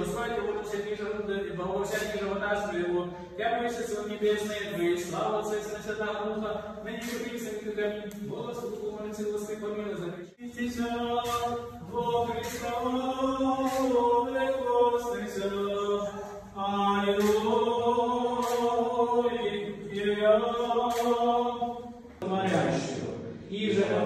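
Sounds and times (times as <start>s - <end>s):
liturgical chant singing: 0.0s - 24.0s.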